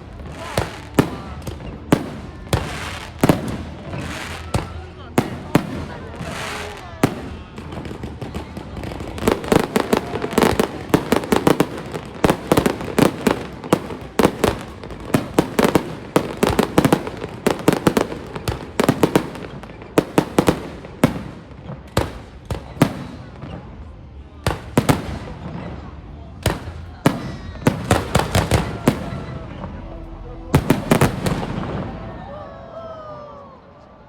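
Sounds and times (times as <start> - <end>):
rapid firework bangs and pops: 0.0 - 29.4.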